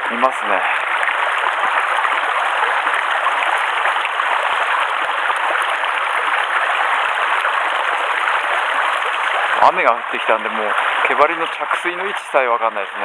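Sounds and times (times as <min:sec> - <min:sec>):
rain falling on water: 0:00.0 - 0:13.0
stream water rushing: 0:00.0 - 0:13.0.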